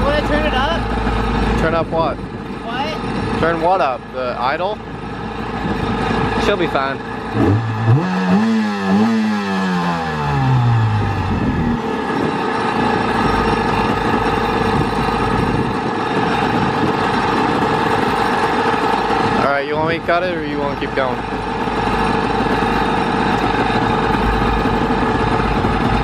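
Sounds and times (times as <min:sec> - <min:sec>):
jet ski engine revving and idling: 0:00.0 - 0:26.0.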